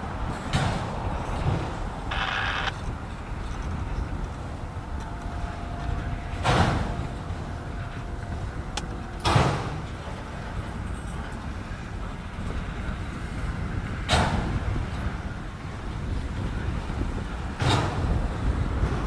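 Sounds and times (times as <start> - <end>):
freight train rumbling: 0.0 - 19.0
train wheels clanking on rail joints: 0.0 - 19.0.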